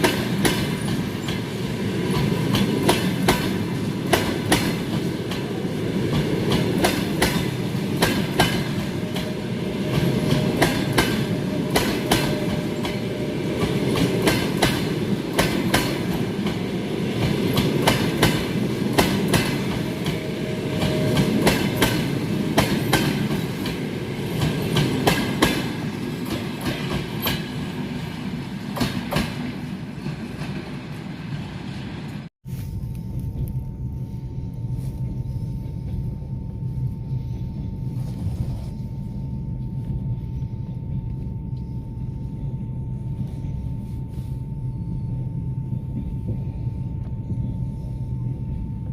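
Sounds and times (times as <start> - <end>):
train rolling rumble: 0.0 - 48.9.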